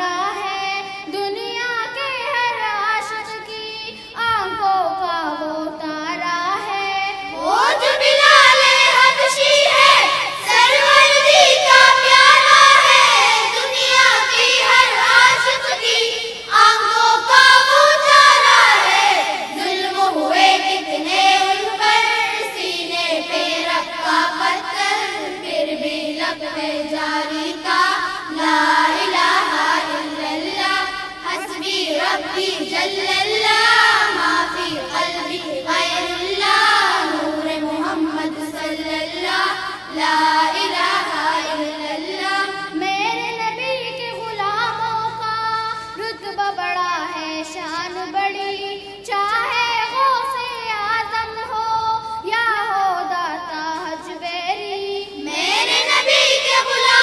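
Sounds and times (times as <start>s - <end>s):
children singing a devotional song: 0.0s - 57.0s.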